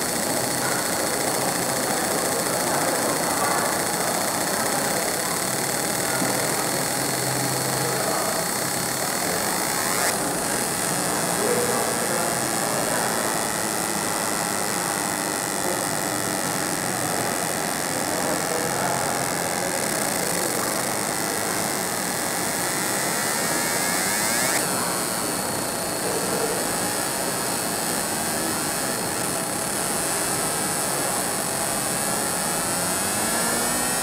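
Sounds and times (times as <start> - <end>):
laser engraving machine hissing: 0.0 - 34.0.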